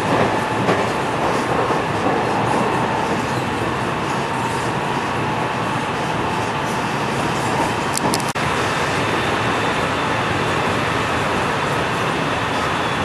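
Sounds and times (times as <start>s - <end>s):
train car running noise: 0.0s - 13.0s.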